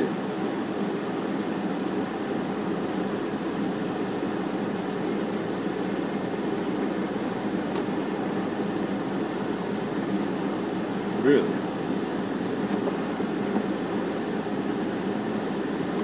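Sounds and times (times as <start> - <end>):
car air conditioning hum: 0.0 - 16.0.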